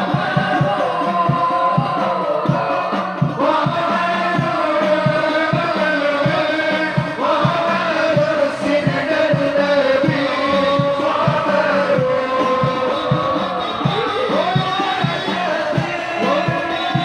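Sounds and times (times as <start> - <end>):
frame drum beat: 0.0 - 17.0
group singing in unison: 0.0 - 17.0.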